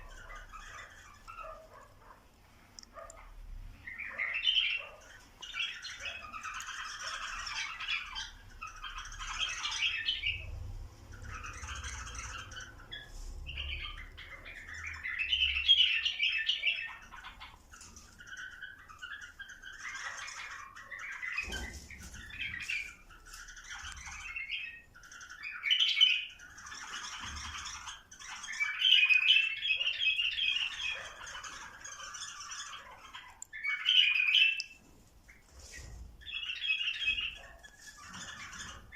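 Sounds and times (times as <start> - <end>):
bulbuls chattering calls: 0.0 - 2.2, 2.9 - 38.9.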